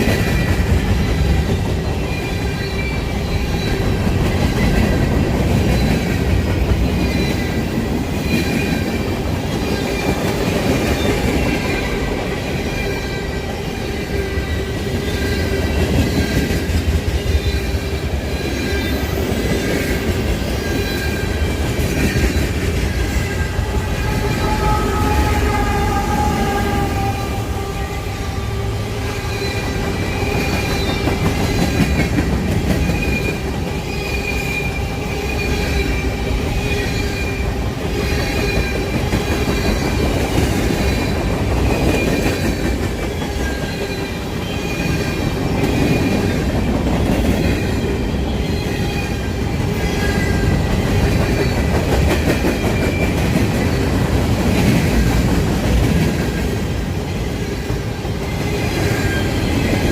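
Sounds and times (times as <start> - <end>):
train wheels squealing: 0.0 - 56.4, 57.5 - 59.9
freight train rumbling past: 0.0 - 59.9.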